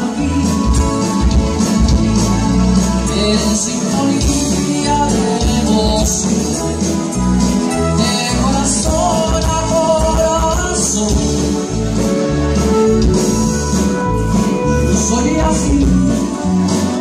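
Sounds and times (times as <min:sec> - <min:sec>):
person singing: 0:00.0 - 0:12.3, 0:14.3 - 0:17.0
band music: 0:00.0 - 0:17.0
guitar: 0:00.0 - 0:17.0.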